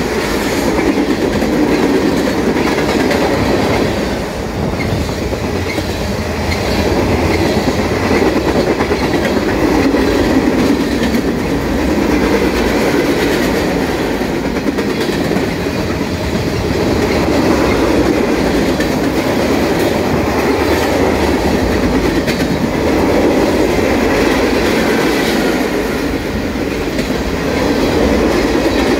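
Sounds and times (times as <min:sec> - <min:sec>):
train wheels rolling on rails: 0:00.0 - 0:28.9.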